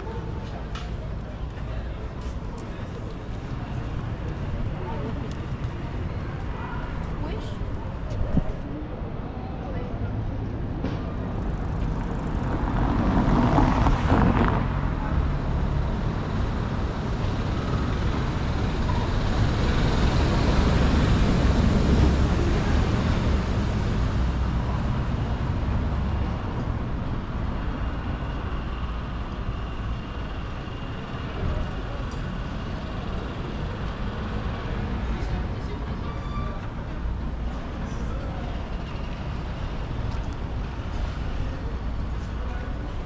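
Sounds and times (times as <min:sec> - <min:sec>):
low traffic rumble: 0:00.0 - 0:43.0
motor vehicles passing: 0:00.0 - 0:43.0.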